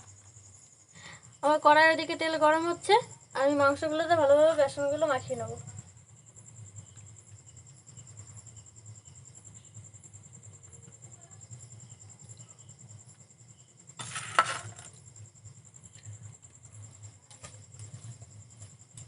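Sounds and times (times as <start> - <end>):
high pulsing insect chirr: 0.0 - 19.0.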